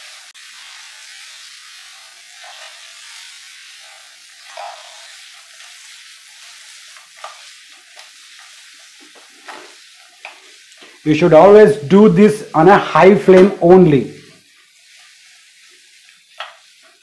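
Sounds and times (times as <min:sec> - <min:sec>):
liver sizzling in frying pan: 0:00.0 - 0:11.5, 0:14.2 - 0:17.0.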